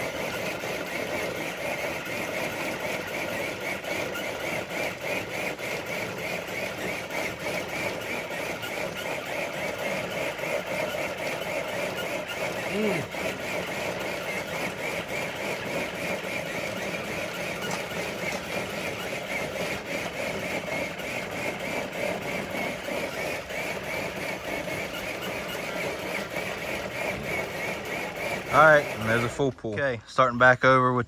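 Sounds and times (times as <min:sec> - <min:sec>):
electric motor whining: 0:00.0 - 0:30.5.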